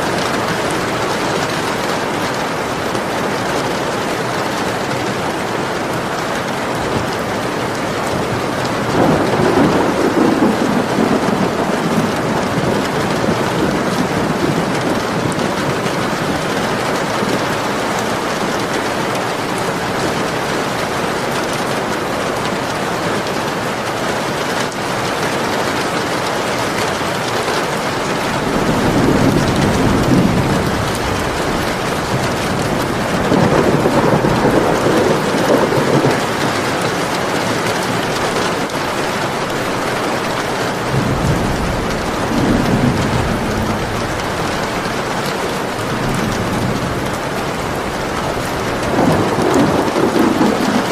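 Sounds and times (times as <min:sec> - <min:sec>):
thunder rumbling: 0:00.0 - 0:22.8, 0:27.6 - 0:50.9
steady rain falling: 0:00.0 - 0:50.9.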